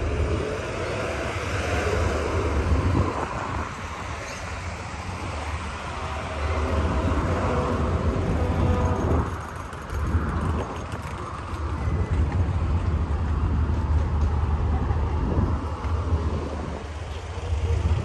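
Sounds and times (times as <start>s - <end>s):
noisy haze: 0.0s - 18.0s
steady low rumble: 0.0s - 18.0s.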